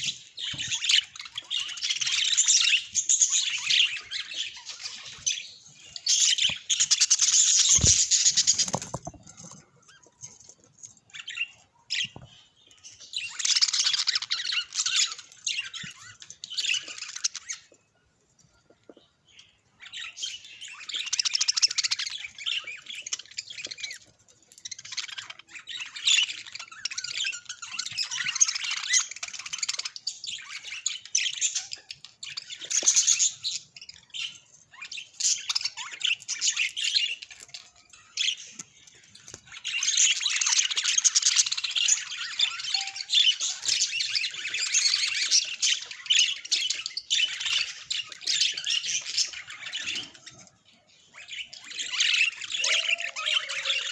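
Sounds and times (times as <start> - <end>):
budgerigars chattering and chirping: 0.0 - 10.4, 11.1 - 17.7, 18.7 - 53.9.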